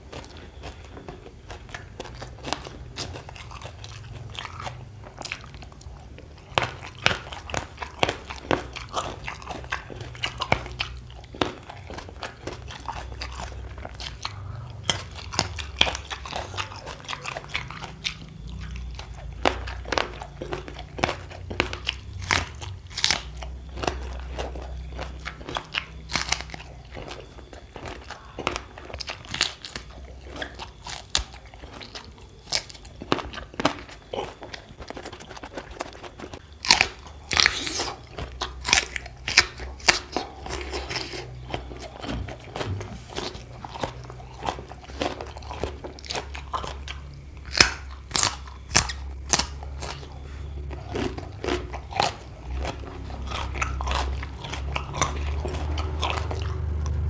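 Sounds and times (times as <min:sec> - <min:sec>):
crunchy biting and chewing: 0:00.0 - 0:57.0
faint low hum: 0:00.0 - 0:57.0.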